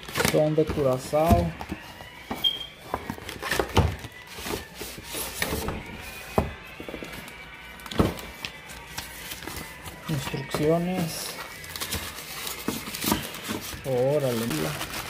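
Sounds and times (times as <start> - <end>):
cardboard and styrofoam handling: 0.0 - 15.0.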